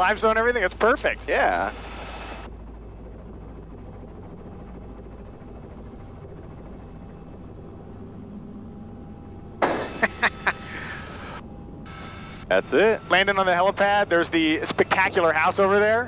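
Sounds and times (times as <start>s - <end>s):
helicopter cabin drone: 0.0s - 16.0s.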